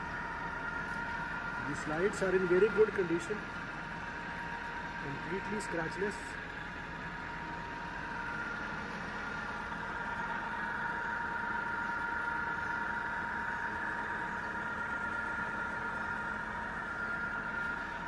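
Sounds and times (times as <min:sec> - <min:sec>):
drilling machine whining hum: 0:00.0 - 0:18.0.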